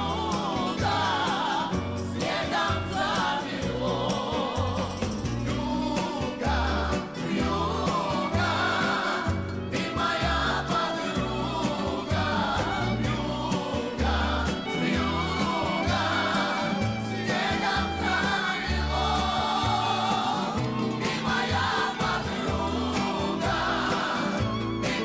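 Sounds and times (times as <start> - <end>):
bass line: 0.0 - 25.0
voices singing together: 0.0 - 25.0.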